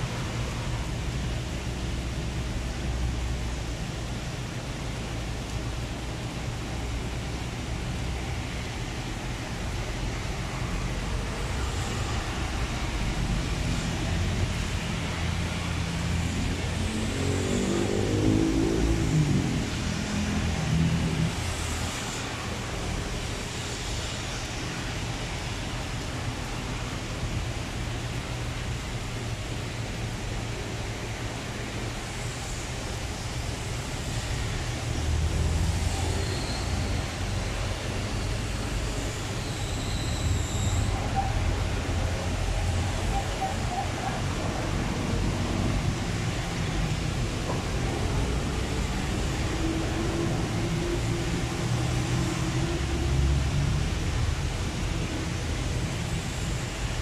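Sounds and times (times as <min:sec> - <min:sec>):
steady rain hissing: 0:00.0 - 0:57.0
traffic on wet road: 0:00.0 - 0:57.0
vehicles passing: 0:06.6 - 0:57.0.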